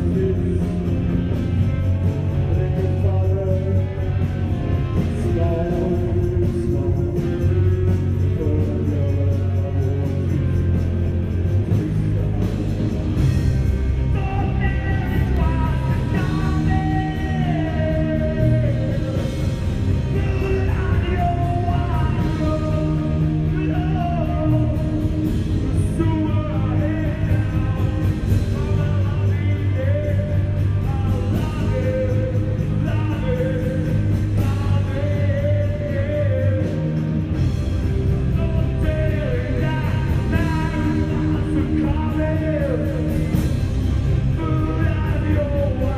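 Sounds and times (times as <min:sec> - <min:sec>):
person singing lead vocal: 0:00.0 - 0:45.9
rock band playing live: 0:00.0 - 0:45.9.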